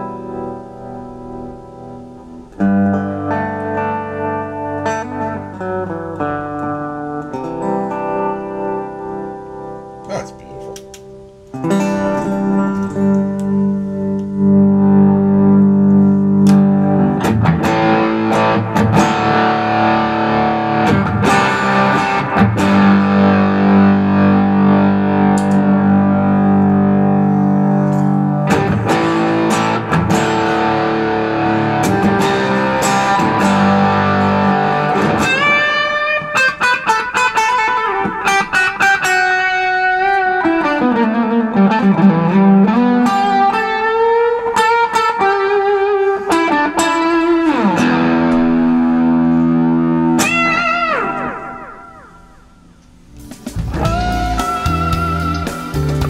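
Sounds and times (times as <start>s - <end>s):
electric guitar through an amp: 0.0s - 56.0s.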